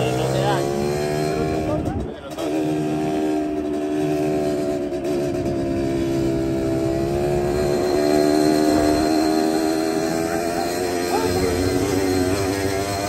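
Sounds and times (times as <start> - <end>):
two-stroke motorbike engine running: 0.0 - 13.0.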